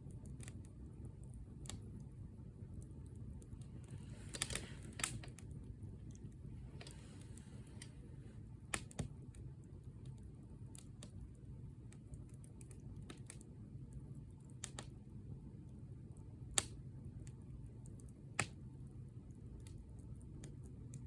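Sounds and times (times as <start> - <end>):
campfire crackling and popping: 0.0 - 21.0
low steady rumble: 0.0 - 21.0.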